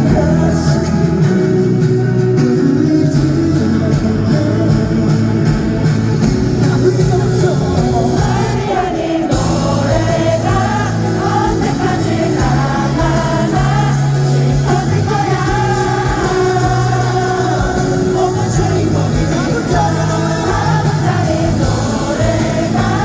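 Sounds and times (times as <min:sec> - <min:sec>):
audience singing along: 0:00.0 - 0:23.0
live band playing: 0:00.0 - 0:23.0
person singing: 0:00.0 - 0:23.0.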